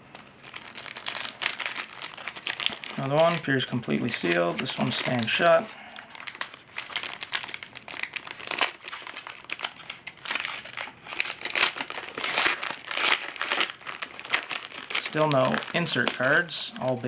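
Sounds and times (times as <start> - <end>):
foil wrapper crinkling: 0.0 - 17.0.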